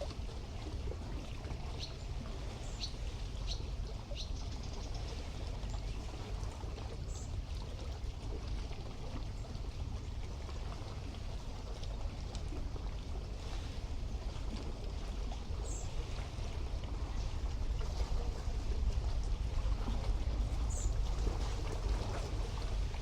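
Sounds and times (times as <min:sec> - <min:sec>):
low steady rumble: 0:00.0 - 0:23.0
seawater lapping on shore: 0:00.0 - 0:23.0.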